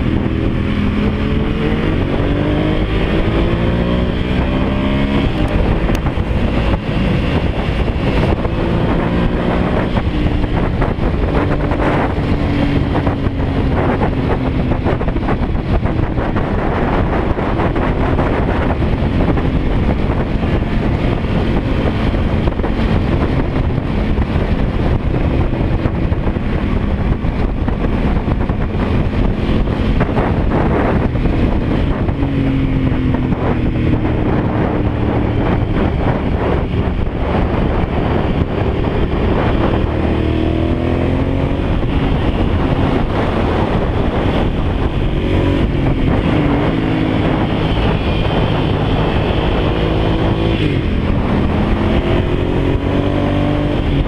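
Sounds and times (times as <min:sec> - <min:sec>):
motorcycle engine revving: 0:00.0 - 0:54.0
wind rushing over microphone: 0:00.0 - 0:54.0.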